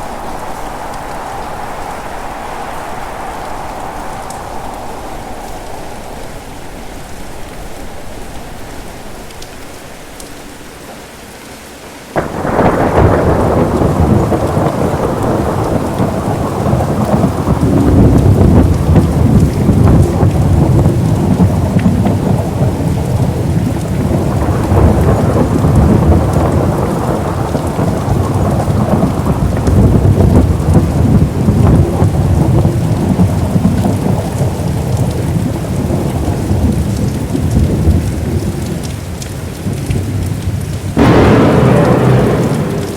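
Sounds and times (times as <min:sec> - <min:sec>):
rumbling thunder: 0:00.0 - 0:10.8, 0:12.2 - 0:38.9, 0:39.6 - 0:42.9
steady rain: 0:00.0 - 0:42.9.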